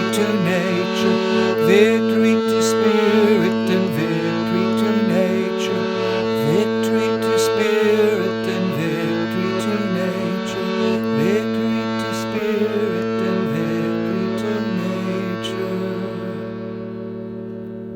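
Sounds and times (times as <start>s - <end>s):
harmonium playing over drone: 0.0s - 17.9s.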